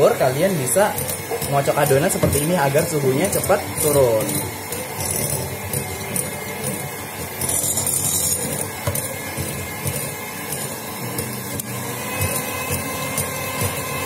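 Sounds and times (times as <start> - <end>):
electric hand mixer running: 0.0 - 14.0.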